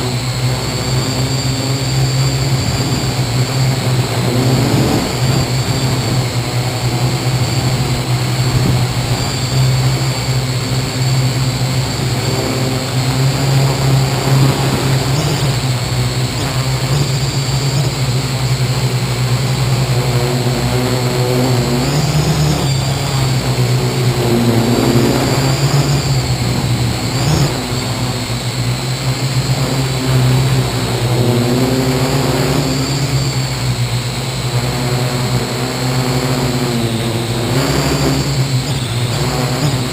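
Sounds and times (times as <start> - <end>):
drone propellers humming and whining: 0.0 - 39.9.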